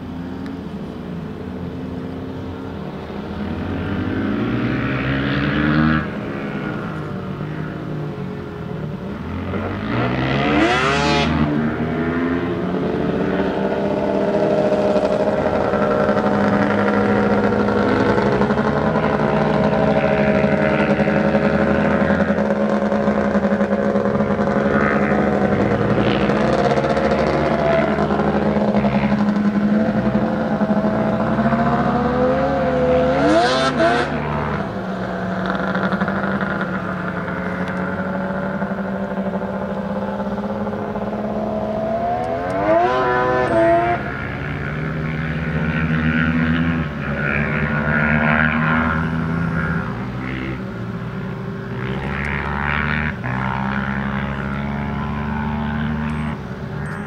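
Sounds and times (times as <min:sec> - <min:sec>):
small racing engines droning: 0:00.0 - 0:57.0.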